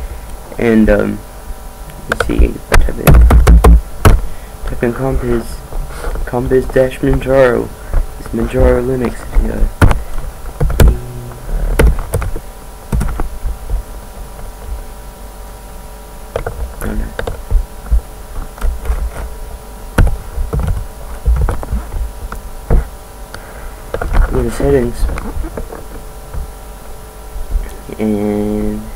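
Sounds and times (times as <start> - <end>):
steady electrical hum: 0.0 - 28.9.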